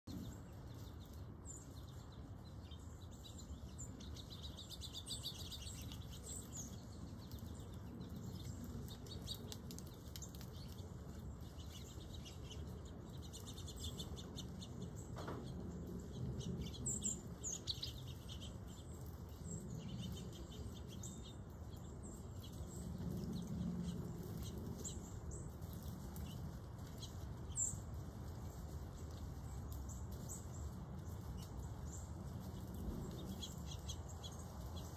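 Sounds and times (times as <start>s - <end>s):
steady low rumble: 0.0s - 34.9s
wild birds chirping: 0.0s - 34.9s.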